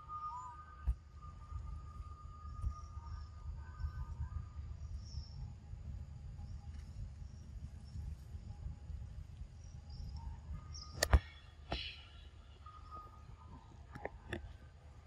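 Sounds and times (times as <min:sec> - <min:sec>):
faint high steady tones: 0:00.0 - 0:15.0.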